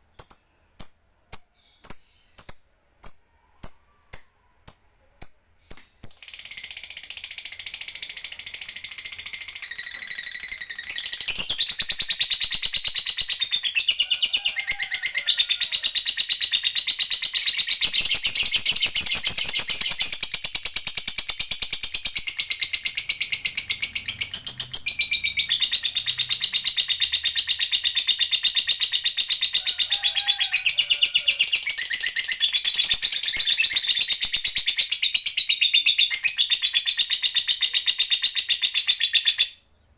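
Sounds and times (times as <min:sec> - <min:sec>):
lovebird chattering trill: 0:00.2 - 0:39.6.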